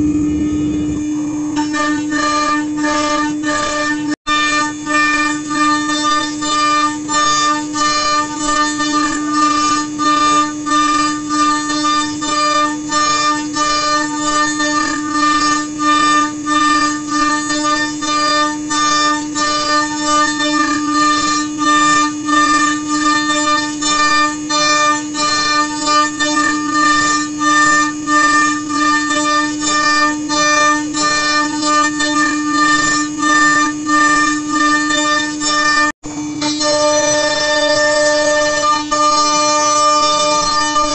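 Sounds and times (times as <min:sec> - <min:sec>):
router bit cutting wood: 0:00.0 - 0:40.9
router spindle whine: 0:00.0 - 0:40.9.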